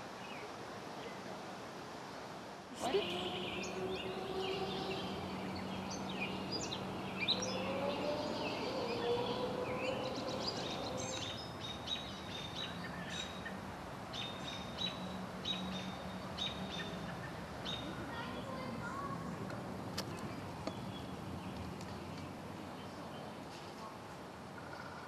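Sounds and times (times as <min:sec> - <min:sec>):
outdoor background noise: 0:00.0 - 0:25.0
songbirds chirping: 0:02.8 - 0:25.0.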